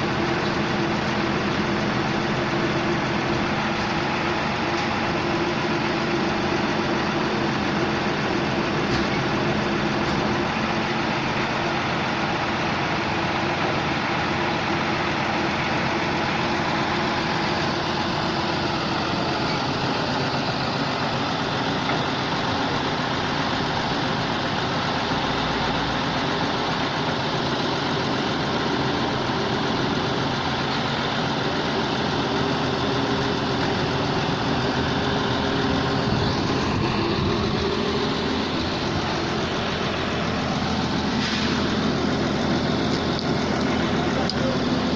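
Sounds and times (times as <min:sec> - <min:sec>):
air compressor diesel engine running: 0:00.0 - 0:44.9.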